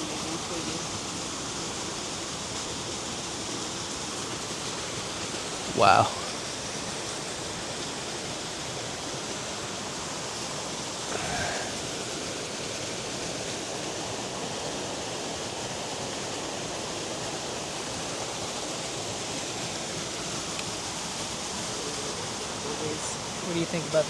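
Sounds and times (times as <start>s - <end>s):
river water and waterfall rushing: 0.0s - 24.0s.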